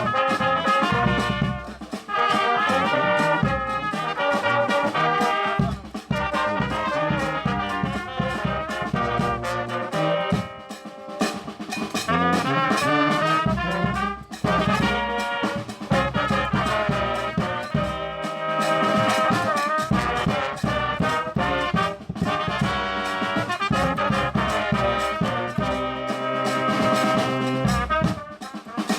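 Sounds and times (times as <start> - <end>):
drums: 0.0 - 28.9
trumpets and trombones: 0.0 - 28.9.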